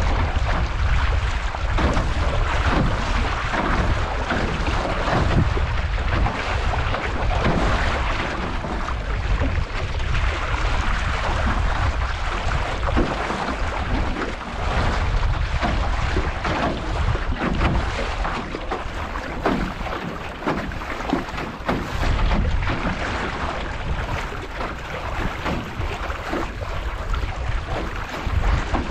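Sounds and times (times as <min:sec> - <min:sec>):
short splashes: 0:00.0 - 0:28.9
water slapping along canoe hull: 0:00.0 - 0:28.9
wind buffeting microphone: 0:00.0 - 0:28.9.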